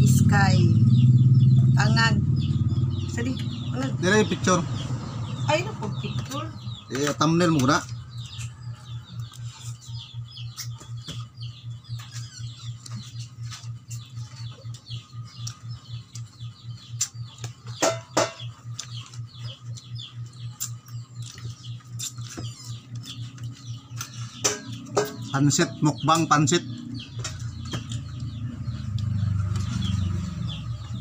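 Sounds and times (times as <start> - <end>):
birds chirping and peeping: 0.0 - 31.0
pulsing low hum: 0.0 - 31.0.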